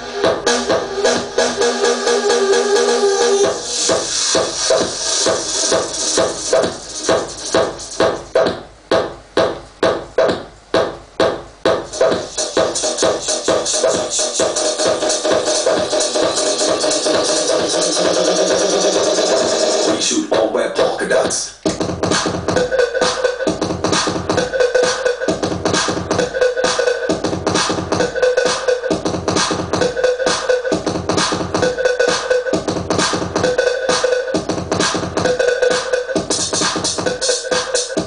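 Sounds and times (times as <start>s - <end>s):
electronic dance music: 0.0s - 38.0s.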